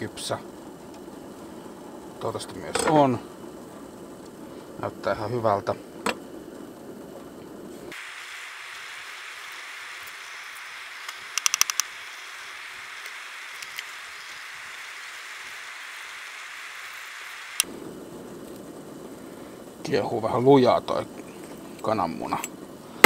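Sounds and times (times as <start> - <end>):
water boiling with bubbling hiss: 0.0 - 23.0.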